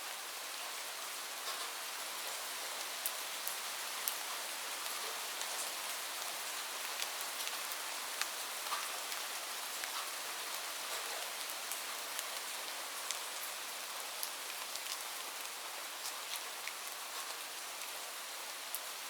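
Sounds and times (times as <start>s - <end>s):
light rain: 0.0s - 19.0s.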